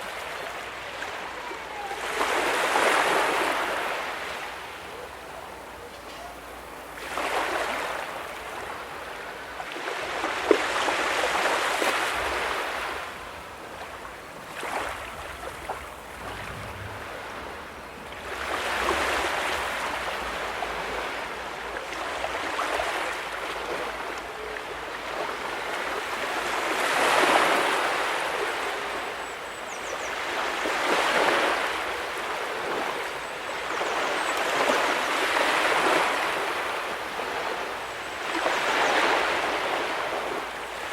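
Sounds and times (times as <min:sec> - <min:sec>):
ocean waves breaking on sand: 0:00.0 - 0:40.9.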